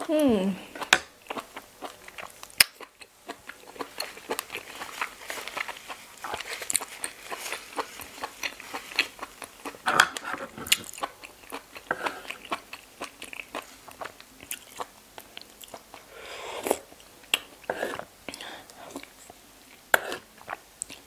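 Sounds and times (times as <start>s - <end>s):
wet chewing and crunching: 0.6s - 16.1s, 16.7s - 21.0s.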